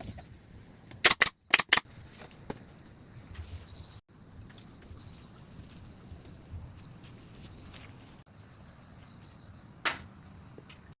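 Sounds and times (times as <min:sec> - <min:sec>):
crickets trilling: 0:00.0 - 0:10.9.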